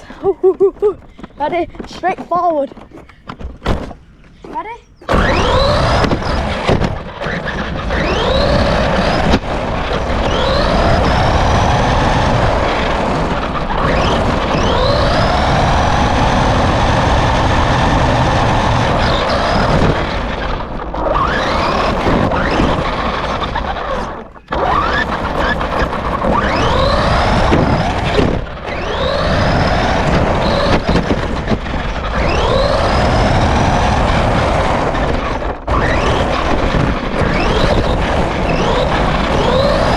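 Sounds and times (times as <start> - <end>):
wind and ground noise: 0.0 - 39.9
toy car motor whining: 5.0 - 39.9.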